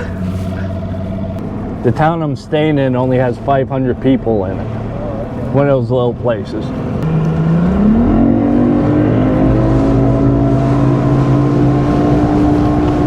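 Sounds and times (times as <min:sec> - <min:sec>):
outboard motor speeding up: 0:00.0 - 0:13.0.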